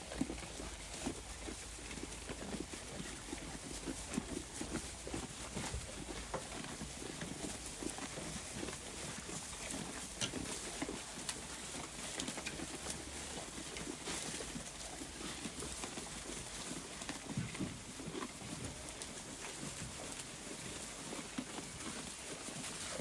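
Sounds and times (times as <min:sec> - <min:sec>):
sheep tearing and chewing grass: 0:00.0 - 0:23.0.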